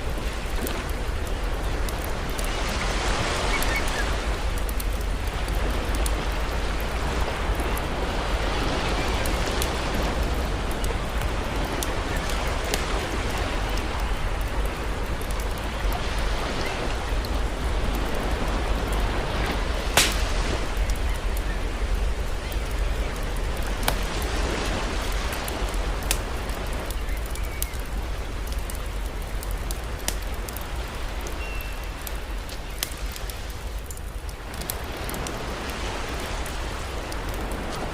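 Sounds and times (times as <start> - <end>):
campfire crackling and popping: 0.0 - 37.9
sea waves: 0.0 - 37.9.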